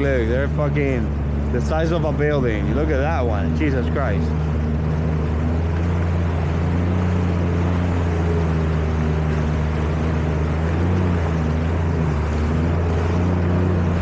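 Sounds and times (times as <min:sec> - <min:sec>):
jet ski engine drone: 0:00.0 - 0:14.0
water rushing under hull: 0:00.0 - 0:14.0.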